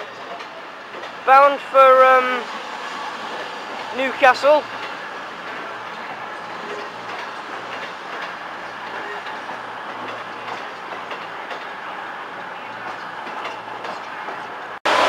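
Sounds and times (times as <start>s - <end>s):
diesel train engines humming: 0.0s - 15.0s.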